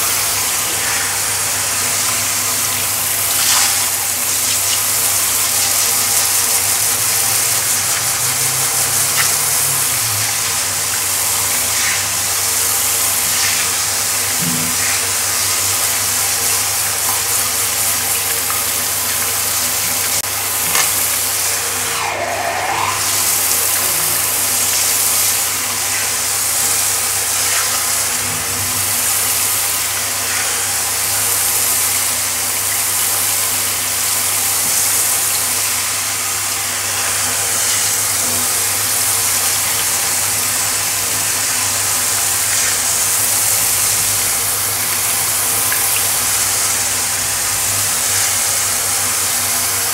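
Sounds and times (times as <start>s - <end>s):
water spraying on tiled floor: 0.0s - 49.9s.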